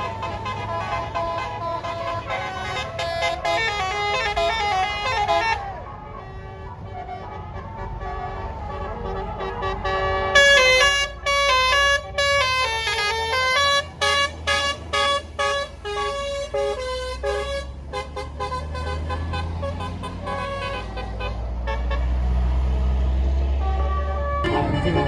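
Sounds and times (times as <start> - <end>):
musical bus air horn: 0.0 - 22.6, 23.6 - 25.0
bus engine running: 0.0 - 23.8, 24.4 - 25.0.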